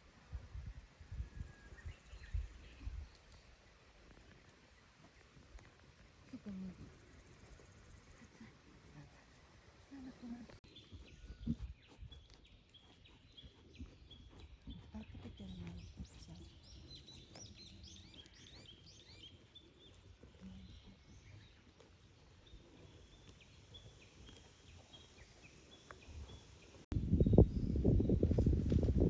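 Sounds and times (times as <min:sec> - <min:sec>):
small birds chirping: 0:00.3 - 0:29.0.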